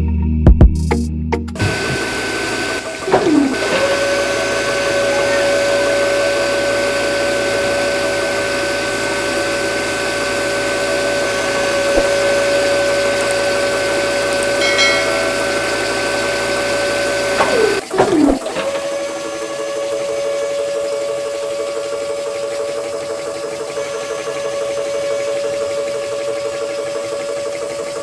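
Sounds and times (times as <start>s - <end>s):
small water pump whining: 1.6s - 28.0s.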